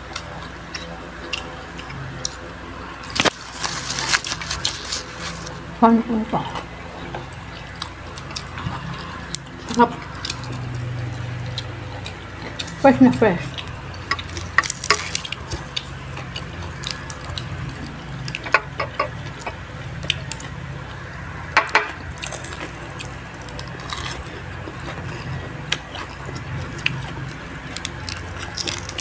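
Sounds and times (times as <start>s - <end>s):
low steady hum: 0.0s - 29.0s
people chewing crispy food: 0.0s - 29.0s.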